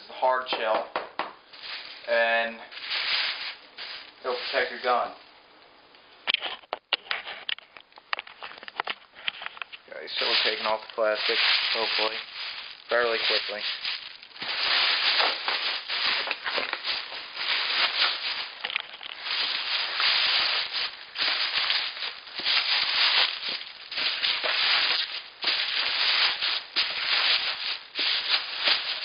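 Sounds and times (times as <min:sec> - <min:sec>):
plastic wrapping crinkling: 0:01.4 - 0:05.3, 0:06.3 - 0:29.0.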